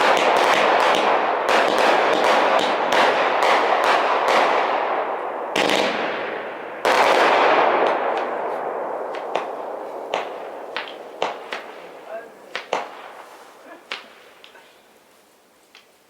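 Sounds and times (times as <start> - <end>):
fireworks cracking and crackling: 0.0 - 16.0.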